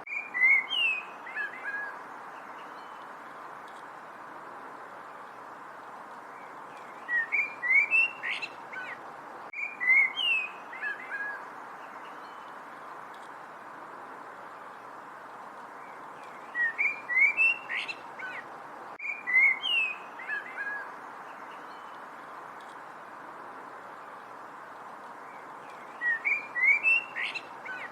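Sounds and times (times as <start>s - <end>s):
songbird singing: 0.0s - 27.9s
steady hiss: 0.0s - 27.9s.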